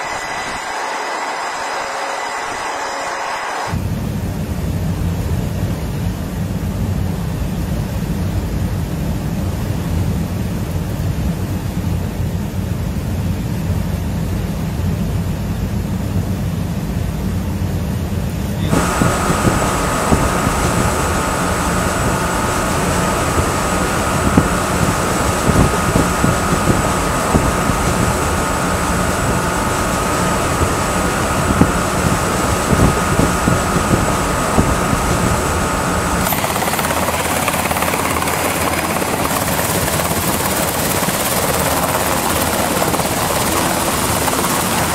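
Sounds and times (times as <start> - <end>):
helicopter hovering close by: 0.0 - 14.4, 15.3 - 44.9
helicopter rotor and turbine: 0.0 - 44.9
muffled helicopter rumble: 3.7 - 44.9.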